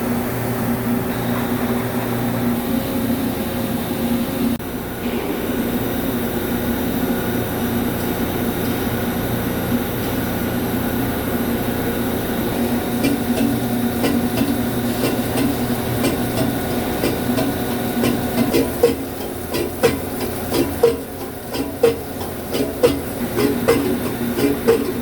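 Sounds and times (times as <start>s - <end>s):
lathe machine hum: 0.0s - 25.0s.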